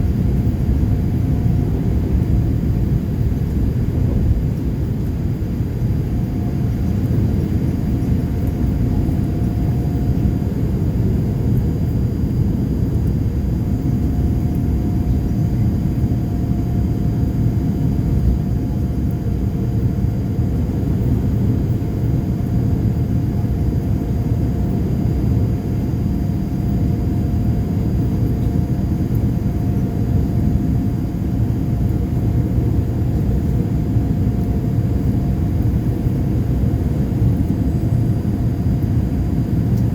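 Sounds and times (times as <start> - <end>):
aircraft engines and airflow rumble: 0.0 - 39.9
faint steady whine: 0.0 - 39.9.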